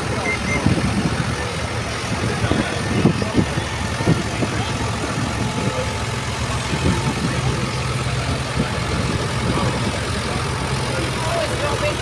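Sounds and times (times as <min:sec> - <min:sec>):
tractor diesel engines running: 0:00.0 - 0:12.0.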